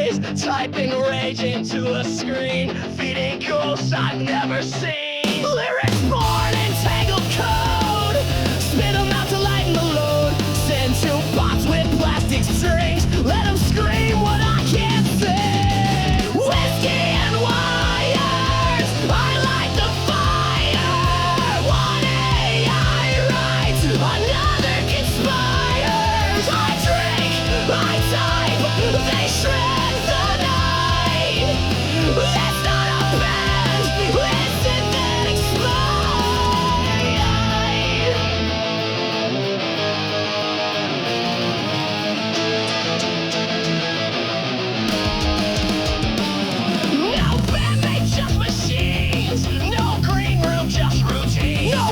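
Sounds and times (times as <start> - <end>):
heavy metal rock music: 0.0 - 51.9.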